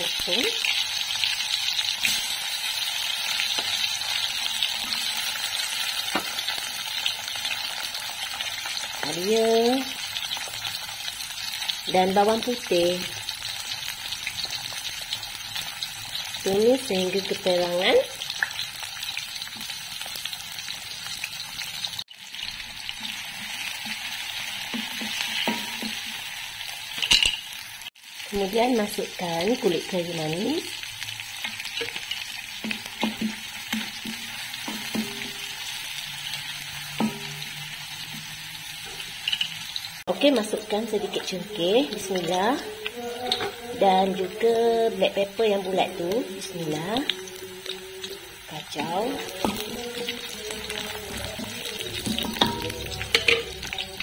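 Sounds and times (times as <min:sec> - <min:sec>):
shallots sizzling in hot oil: 0:00.0 - 0:54.0.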